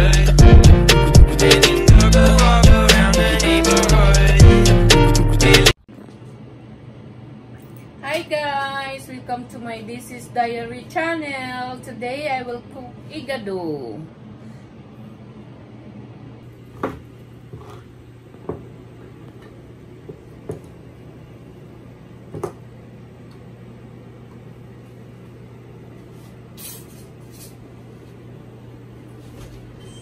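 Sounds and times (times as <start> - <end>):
steady low hum: 0.0 - 29.8.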